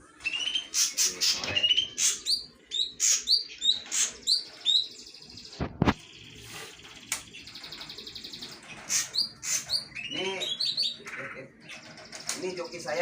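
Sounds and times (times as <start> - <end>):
songbirds chirping: 0.0 - 13.0
bird trilling: 0.2 - 5.1, 7.3 - 12.9.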